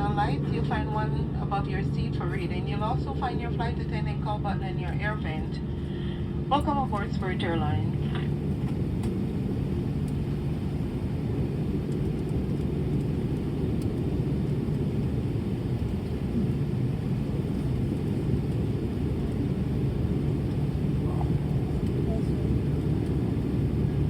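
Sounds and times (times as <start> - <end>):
aircraft cabin engine rumble: 0.0 - 24.0
steady hum: 0.0 - 24.0.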